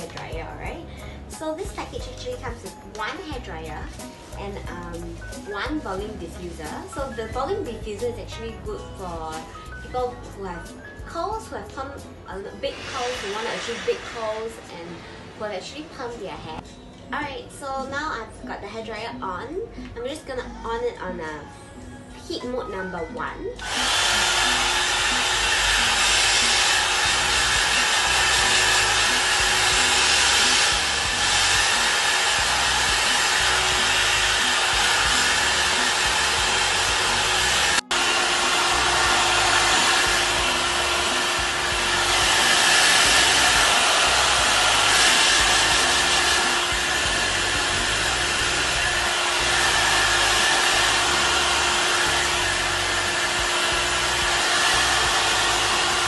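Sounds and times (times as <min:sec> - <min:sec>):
hair dryer running: 0:00.0 - 0:16.0, 0:23.6 - 0:56.0.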